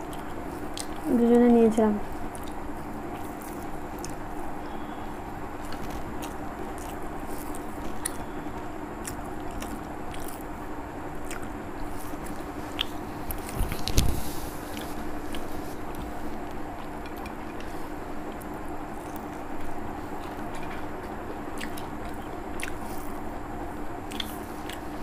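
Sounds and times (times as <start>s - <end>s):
chewing and mouth sounds: 0.0s - 1.2s, 2.1s - 4.9s, 5.6s - 23.3s, 24.0s - 25.0s
steady low hum: 0.0s - 25.0s.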